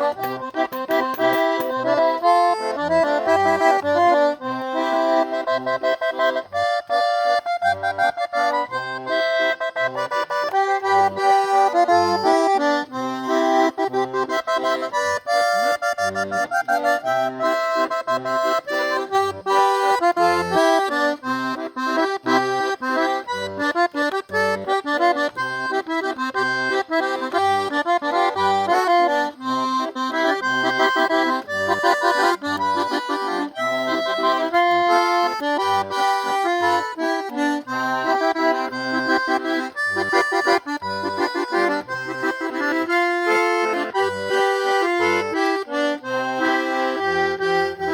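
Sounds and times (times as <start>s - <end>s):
button accordion playing a tune: 0.0s - 47.9s.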